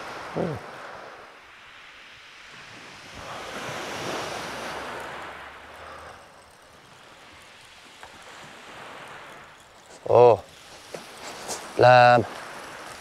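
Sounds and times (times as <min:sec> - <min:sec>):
waves washing over shingle: 0:00.0 - 0:13.0.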